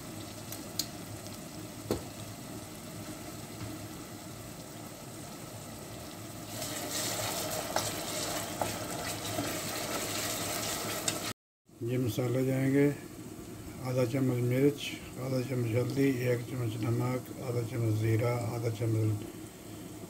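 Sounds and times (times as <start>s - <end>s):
onions sizzling in hot oil: 0.0s - 11.4s, 12.0s - 20.0s.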